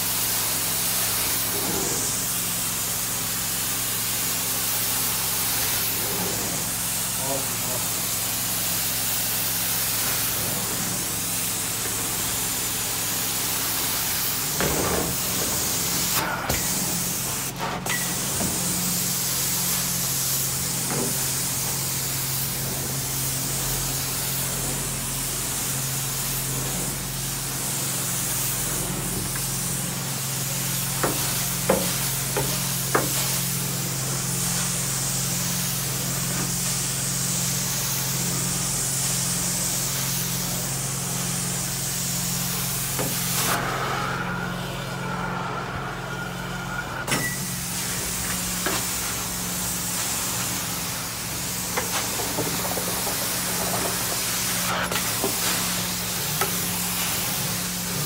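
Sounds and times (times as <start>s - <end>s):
water spraying and suction hiss: 0.0s - 45.3s, 46.4s - 58.0s.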